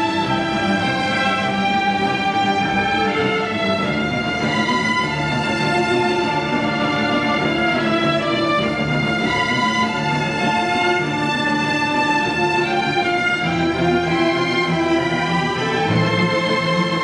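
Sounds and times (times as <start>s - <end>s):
string orchestra playing classical music: 0.0s - 17.0s.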